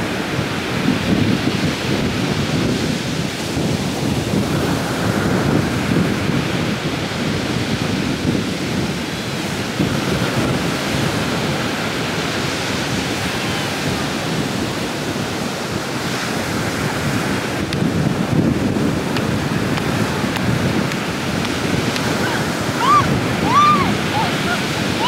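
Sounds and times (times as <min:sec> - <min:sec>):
ocean surf washing onto beach: 0:00.0 - 0:25.0
wind buffeting microphone: 0:00.0 - 0:25.0.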